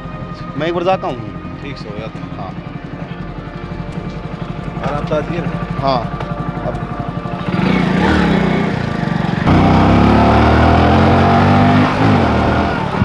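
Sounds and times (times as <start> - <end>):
small engine running and revving: 1.6 - 13.0.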